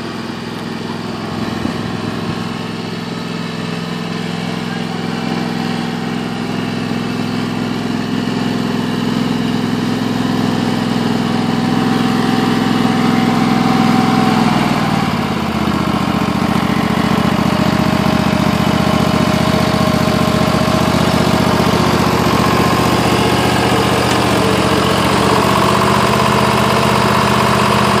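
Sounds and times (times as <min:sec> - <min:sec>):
lawn tractor engine running: 0:00.0 - 0:28.0.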